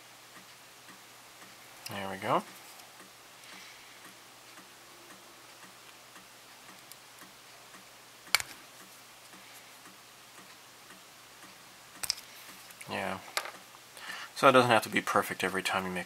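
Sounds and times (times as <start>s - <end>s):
faint regular ticking: 0.2s - 14.1s.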